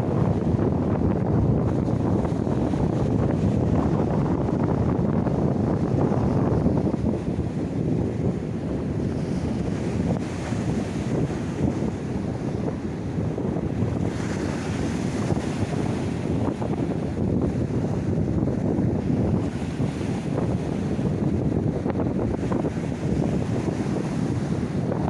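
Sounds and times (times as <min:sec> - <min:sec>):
sea waves washing in: 0:00.0 - 0:25.0
wind rumbling on microphone: 0:00.0 - 0:25.0.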